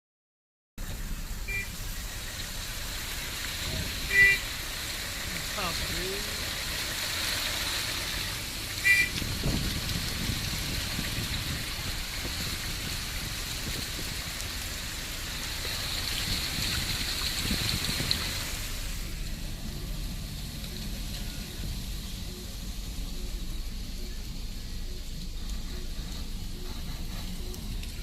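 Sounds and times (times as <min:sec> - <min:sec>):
heavy rain hissing: 0:00.8 - 0:28.0
low rumble: 0:00.8 - 0:28.0.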